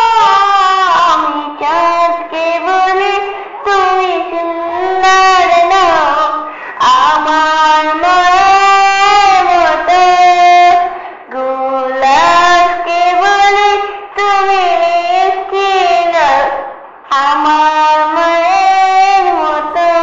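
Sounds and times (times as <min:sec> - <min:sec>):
woman singing unaccompanied: 0:00.0 - 0:20.0.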